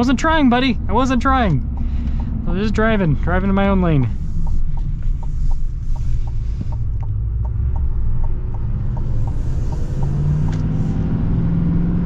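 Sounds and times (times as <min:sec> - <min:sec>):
turn signal ticking: 0:00.0 - 0:11.1
engine and road rumble: 0:00.0 - 0:12.0.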